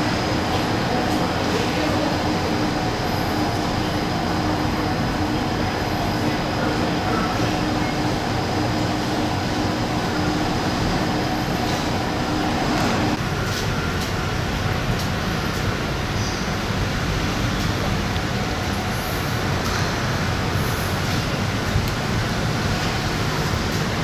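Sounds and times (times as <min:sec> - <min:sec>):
constant hum: 0:00.0 - 0:24.0
train rumbling: 0:00.0 - 0:24.0.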